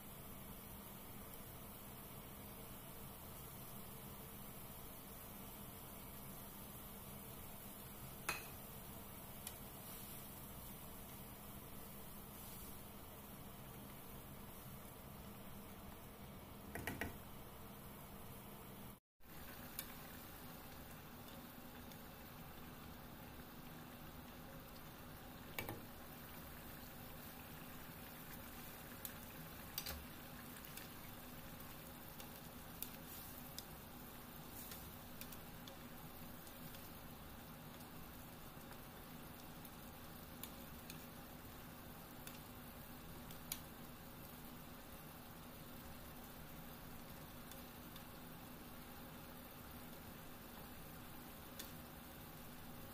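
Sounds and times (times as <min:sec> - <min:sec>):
sauce simmering in a frying pan: 0:00.0 - 0:52.9.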